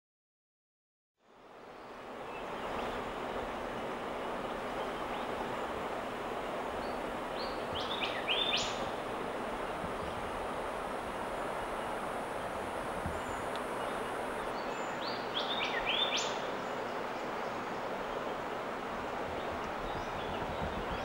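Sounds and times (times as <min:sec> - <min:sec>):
outdoor background hiss: 0:01.2 - 0:21.0.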